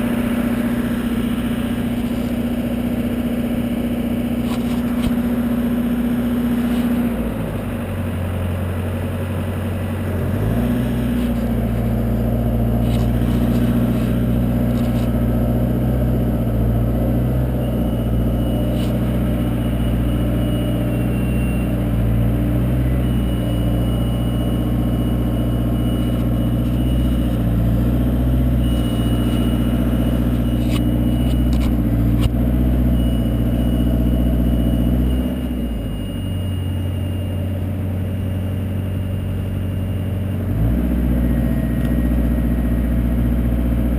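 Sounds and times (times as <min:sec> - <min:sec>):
boom lift engine running: 0:00.0 - 0:43.9.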